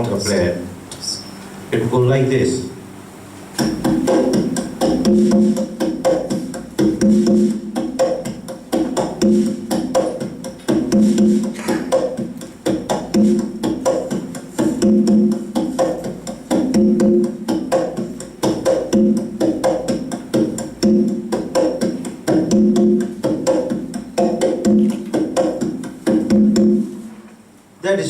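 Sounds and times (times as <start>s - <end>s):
conga drums playing: 3.6s - 27.2s.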